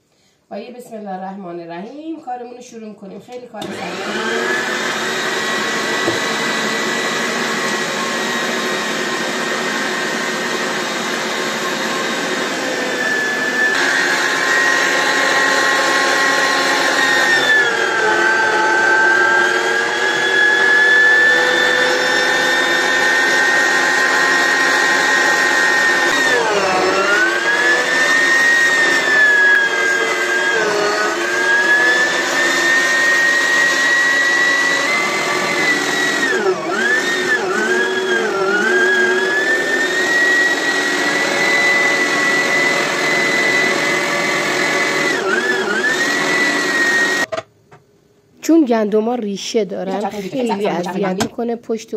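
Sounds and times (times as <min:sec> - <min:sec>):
electric meat grinder motor whine: 0:03.6 - 0:47.3.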